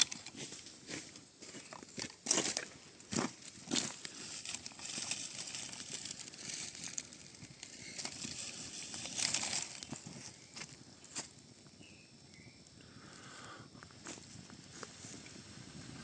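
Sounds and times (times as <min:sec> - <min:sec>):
kindling crackling and snapping: 0:01.8 - 0:14.9.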